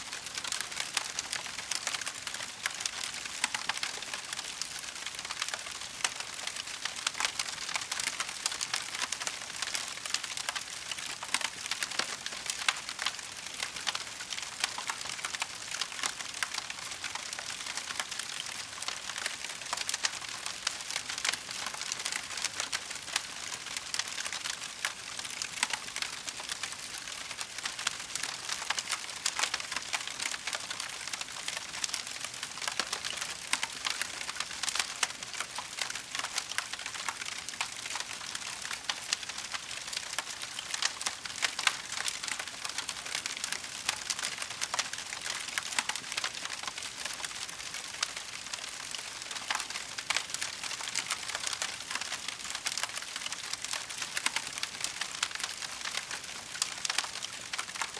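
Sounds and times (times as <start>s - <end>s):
fireplace fire crackling: 0.0s - 57.9s.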